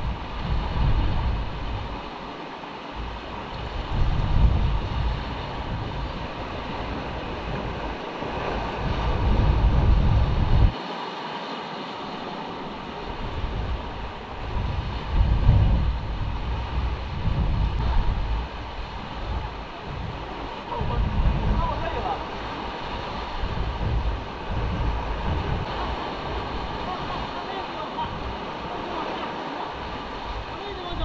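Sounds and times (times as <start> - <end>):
wind buffeting microphone: 0.0 - 10.8, 12.1 - 31.0
surf breaking on rocks: 0.0 - 31.0.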